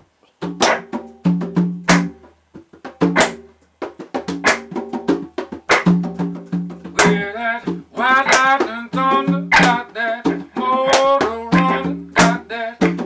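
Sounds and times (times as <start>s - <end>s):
hand drums slapped: 0.4s - 13.0s.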